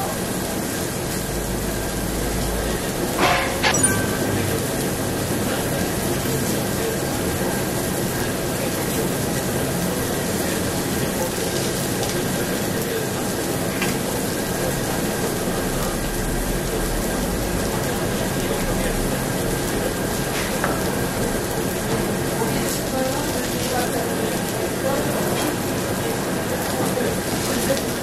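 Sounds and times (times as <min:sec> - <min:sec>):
meat sizzling on a grill: 0:00.0 - 0:03.5, 0:04.4 - 0:28.0.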